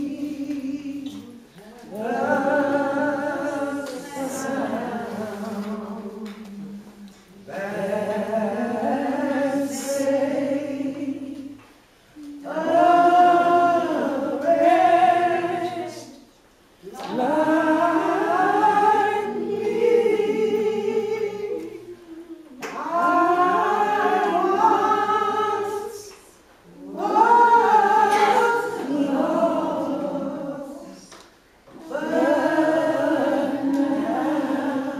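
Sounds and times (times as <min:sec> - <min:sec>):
group singing a hymn: 0:00.0 - 0:34.9.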